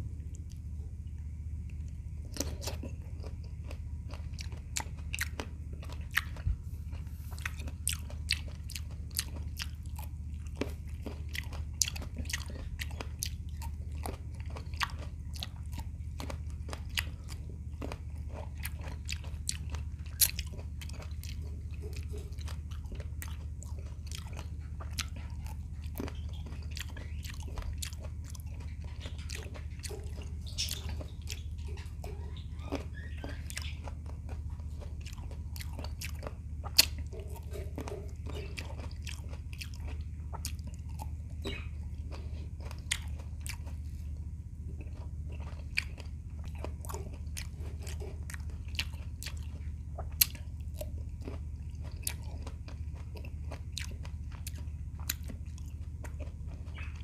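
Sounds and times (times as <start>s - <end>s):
low hum: 0.0s - 57.0s
person chewing grapes: 0.0s - 57.0s.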